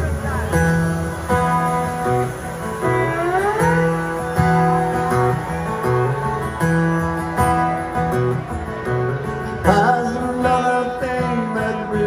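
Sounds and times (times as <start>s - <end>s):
country band playing: 0.0s - 12.0s
strummed acoustic guitar: 0.0s - 12.0s.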